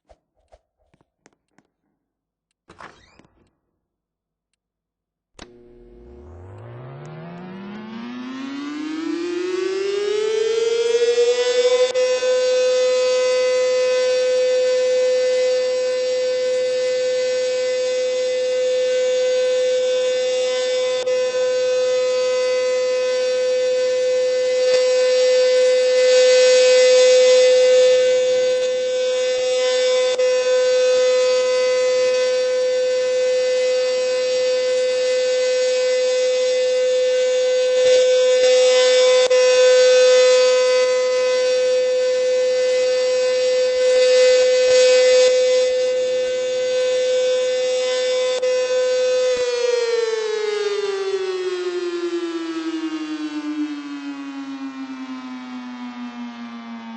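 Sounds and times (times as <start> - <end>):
alert siren steady tone: 5.4 - 56.9.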